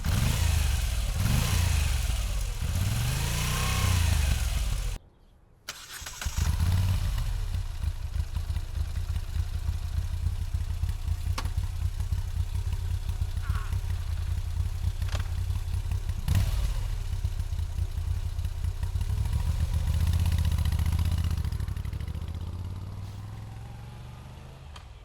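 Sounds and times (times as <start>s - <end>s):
motorcycle engine idling: 0.0s - 5.0s, 6.3s - 25.0s
motorcycle engine revving: 0.0s - 5.0s, 5.7s - 25.0s.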